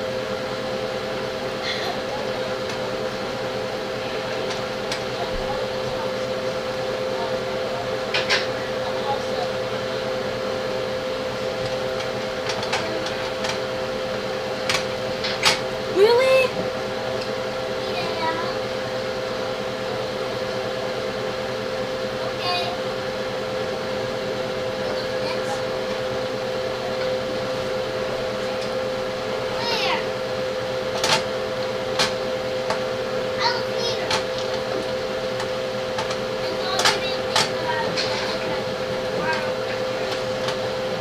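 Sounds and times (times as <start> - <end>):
mechanical hum with whir: 0.0 - 41.0.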